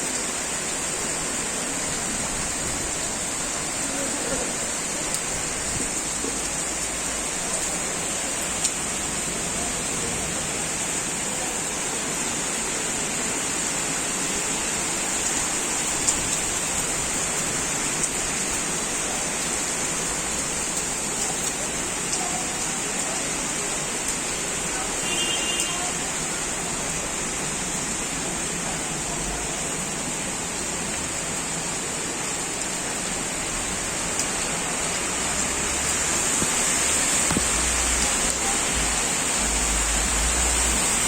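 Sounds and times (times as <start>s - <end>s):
heavy rain falling: 0.0s - 41.0s
raindrops tapping a surface: 1.7s - 41.0s.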